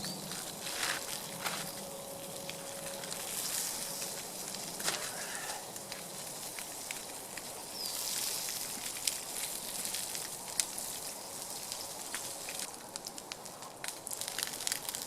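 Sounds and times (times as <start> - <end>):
campfire crackling and hissing: 0.0 - 15.0.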